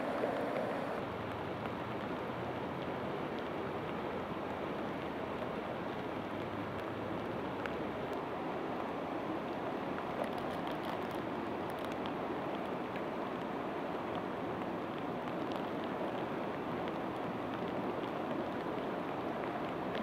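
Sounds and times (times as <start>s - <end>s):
flooded river rushing: 0.0s - 20.0s.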